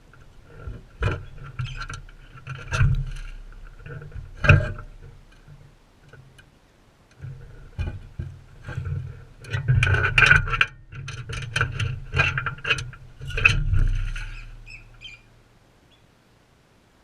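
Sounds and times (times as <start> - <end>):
bird clicks and scrapes: 0.1 - 6.5, 7.1 - 15.3.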